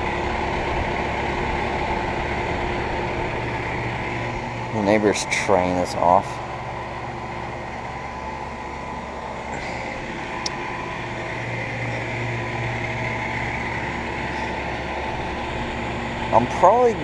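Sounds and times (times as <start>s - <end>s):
compressor hum: 0.0s - 17.0s
condenser fan rushing: 0.0s - 17.0s.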